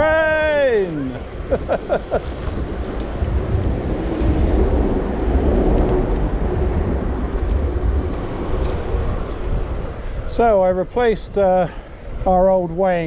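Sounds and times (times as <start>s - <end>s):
passing train rumbling: 0.0s - 11.3s
wind buffeting microphone: 0.0s - 13.0s.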